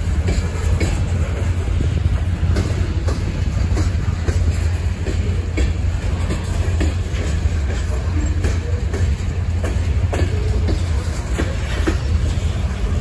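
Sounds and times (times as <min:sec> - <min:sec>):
freight train rumbling past: 0:00.0 - 0:13.0
wheels clicking over rail joints: 0:00.0 - 0:13.0.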